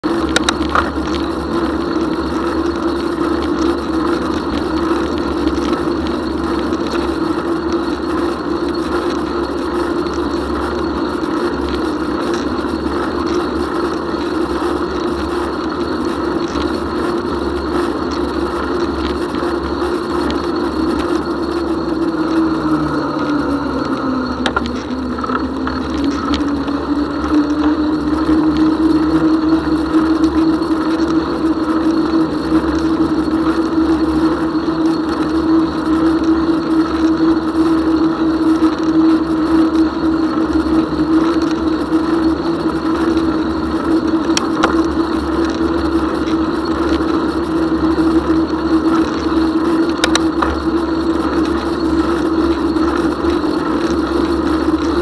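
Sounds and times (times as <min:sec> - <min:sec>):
bicycle humming: 0:00.0 - 0:55.0.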